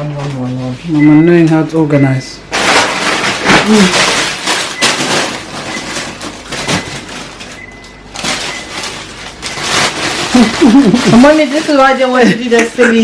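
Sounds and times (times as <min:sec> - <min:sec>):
food packages rustling: 0:02.5 - 0:13.0.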